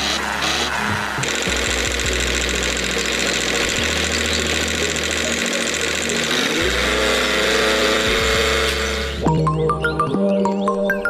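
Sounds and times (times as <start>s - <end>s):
motor running: 0.0s - 9.3s.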